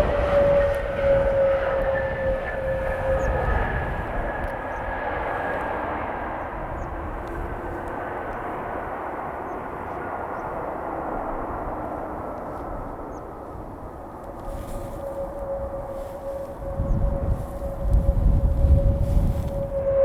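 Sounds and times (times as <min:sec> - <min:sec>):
jet engines whining: 0:00.0 - 0:20.0.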